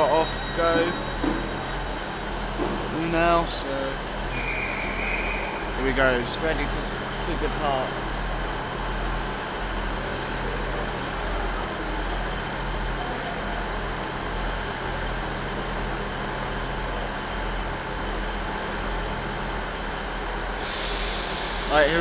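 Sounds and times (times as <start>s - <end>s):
train diesel engine idling: 0.0s - 22.0s.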